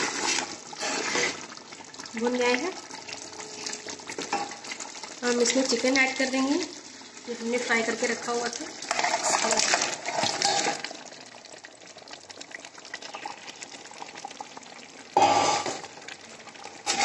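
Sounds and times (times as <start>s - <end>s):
stirring noise: 0.0s - 11.2s, 11.9s - 17.0s
pot sizzling: 0.0s - 17.0s.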